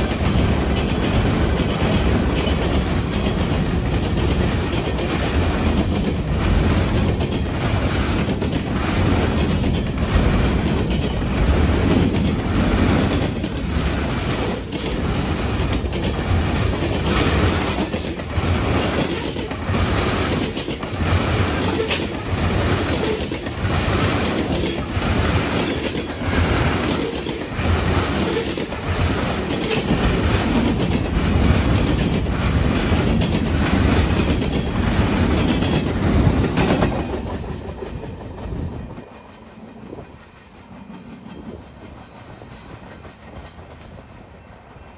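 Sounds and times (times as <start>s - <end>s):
wheels clicking over rail joints: 0.0s - 44.0s
freight train cars rolling: 0.0s - 44.9s.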